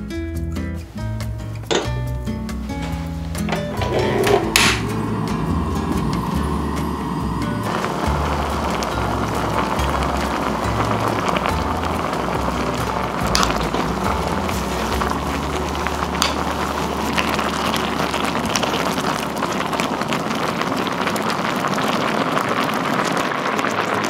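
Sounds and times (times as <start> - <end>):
broth boiling in clay pot: 3.2 - 24.0.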